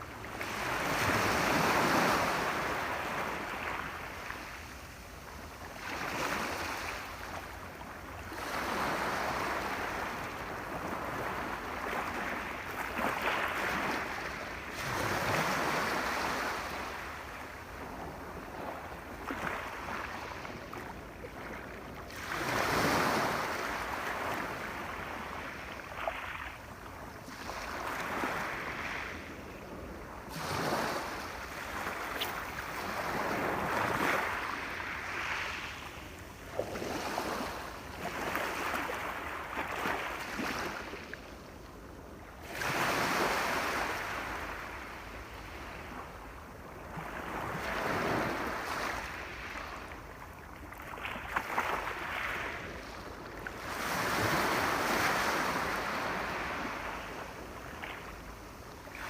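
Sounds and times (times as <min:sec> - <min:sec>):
sea waves breaking on shore: 0:00.0 - 0:05.0, 0:08.2 - 0:41.4, 0:42.4 - 0:59.0.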